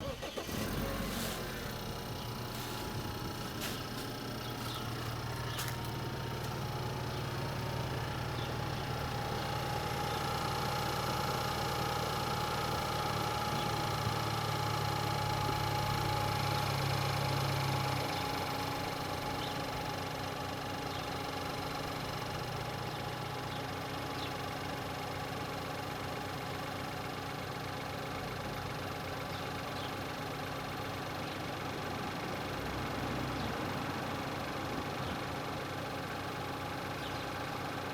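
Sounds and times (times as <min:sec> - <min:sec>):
car engine idling with clatter: 0:00.0 - 0:37.9.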